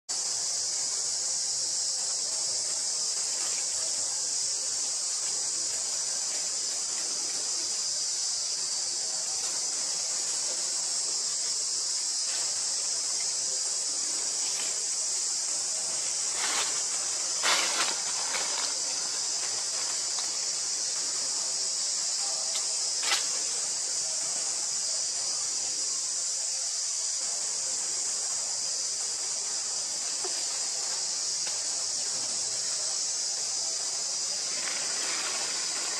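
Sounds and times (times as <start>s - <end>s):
insects buzzing chorus: 0.1s - 35.9s.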